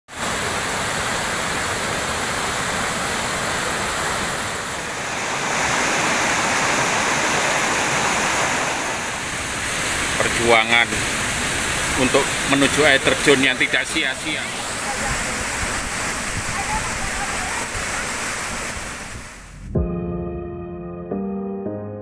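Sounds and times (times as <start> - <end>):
waterfall pouring: 0.1 - 19.5.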